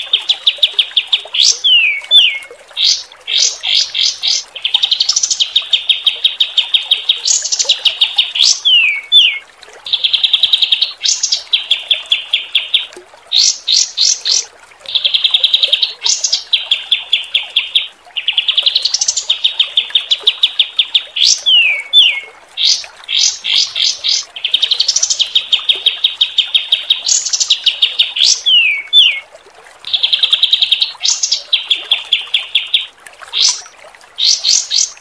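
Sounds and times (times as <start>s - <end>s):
songbird trilling: 0.0s - 29.2s, 29.9s - 35.0s
running water hiss: 0.0s - 35.0s.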